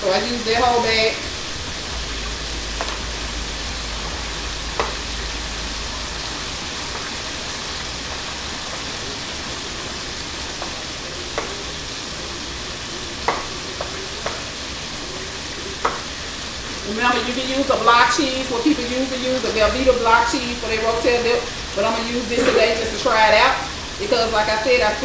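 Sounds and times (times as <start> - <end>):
chicken frying in hot oil: 0.0 - 25.0.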